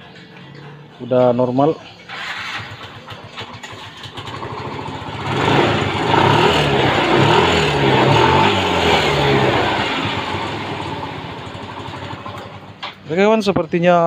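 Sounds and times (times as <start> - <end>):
scooter engine revving: 0.0 - 13.1.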